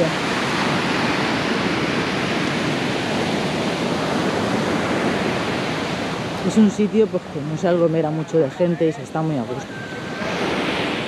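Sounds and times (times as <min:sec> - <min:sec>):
sea surf washing on beach: 0:00.0 - 0:11.0.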